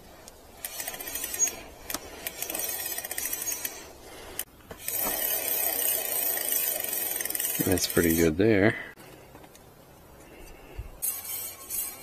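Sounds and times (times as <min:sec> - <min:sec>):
brake pads scraping rotor: 0:00.0 - 0:08.4, 0:10.2 - 0:12.0.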